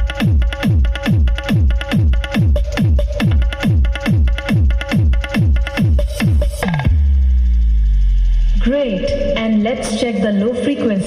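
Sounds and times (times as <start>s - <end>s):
deep kick drum: 0.0s - 9.8s
electronic dance music: 0.0s - 11.0s.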